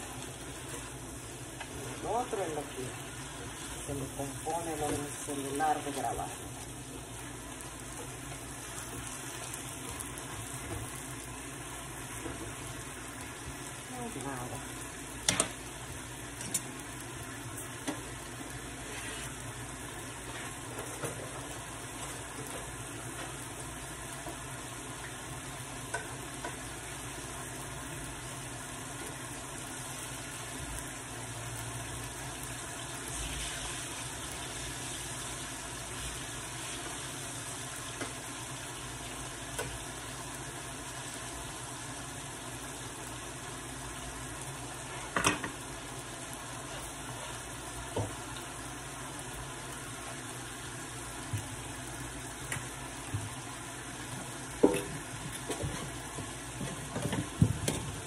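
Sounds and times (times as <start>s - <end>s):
food sizzling in frying pans: 0.0s - 58.0s.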